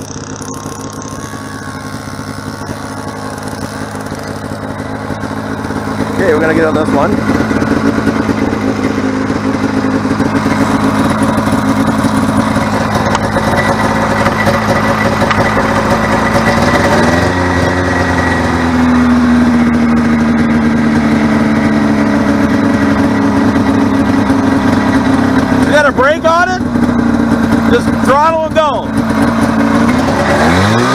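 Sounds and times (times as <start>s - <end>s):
snowmobile engine running: 0.0s - 30.9s.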